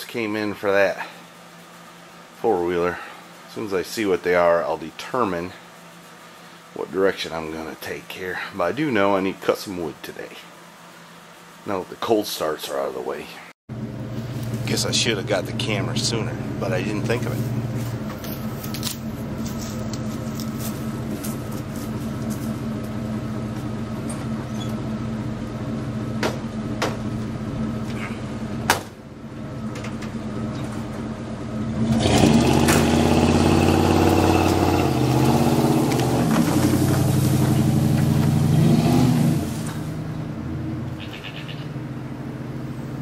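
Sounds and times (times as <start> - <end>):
vehicle engine running: 0.2 - 43.0.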